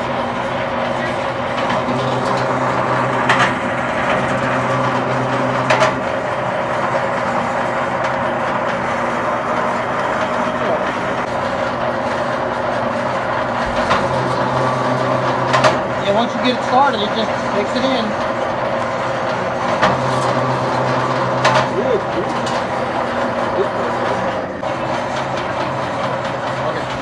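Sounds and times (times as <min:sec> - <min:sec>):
wire stripper machine running: 0:00.0 - 0:27.0.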